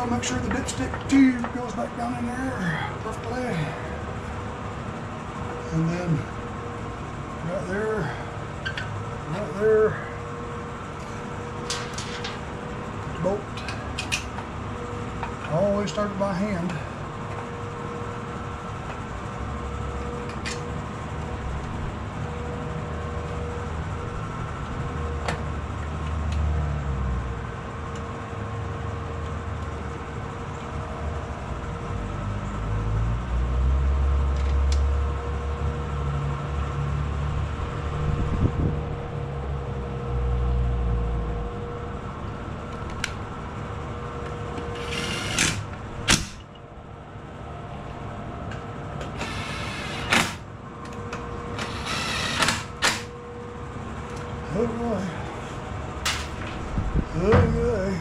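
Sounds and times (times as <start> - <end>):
shop fan running: 0.0 - 58.0.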